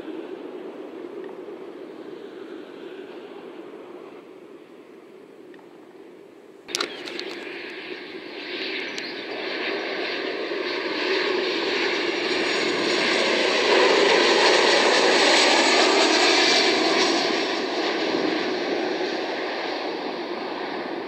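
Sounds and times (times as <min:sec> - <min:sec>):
jet airliner engine rush: 0:00.0 - 0:21.0.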